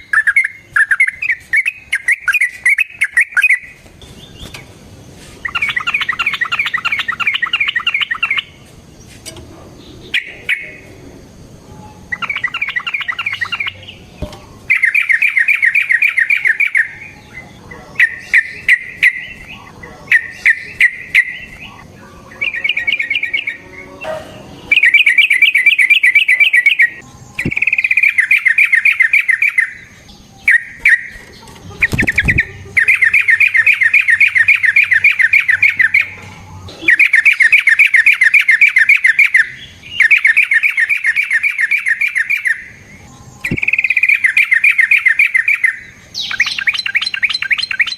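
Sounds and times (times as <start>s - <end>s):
bulbul chattering song: 0.0s - 9.0s, 9.6s - 47.9s.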